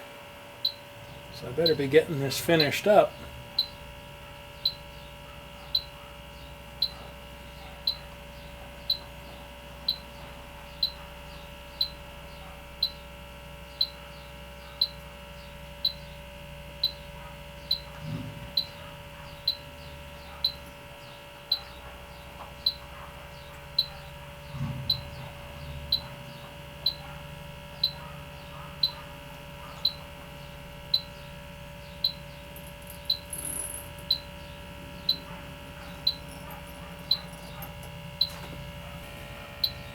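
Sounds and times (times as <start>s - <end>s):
leak detector beeping: 0.6s - 39.9s.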